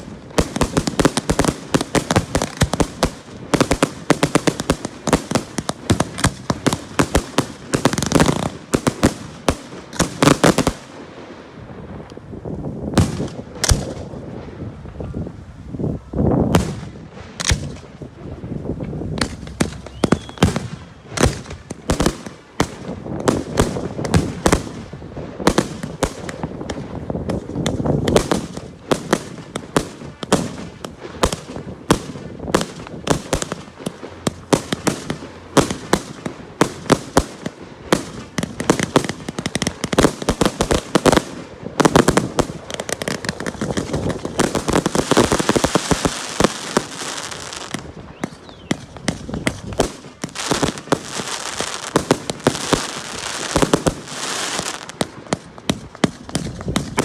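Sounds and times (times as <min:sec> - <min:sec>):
fireworks bangs: 0:00.0 - 0:12.1, 0:12.8 - 0:57.0.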